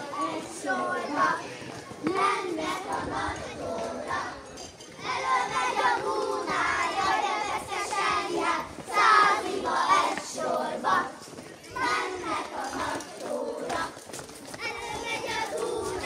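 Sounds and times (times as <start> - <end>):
children calling and chattering: 0.0 - 16.0.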